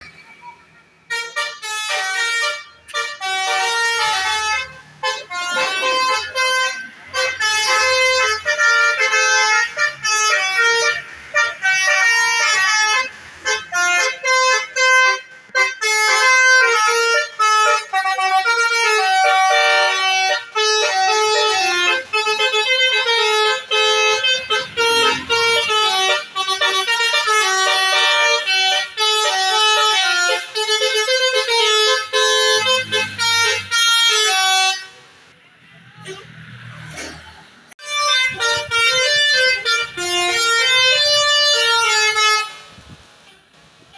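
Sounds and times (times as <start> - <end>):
musical bus horn melody: 1.0 - 35.2, 37.8 - 43.5.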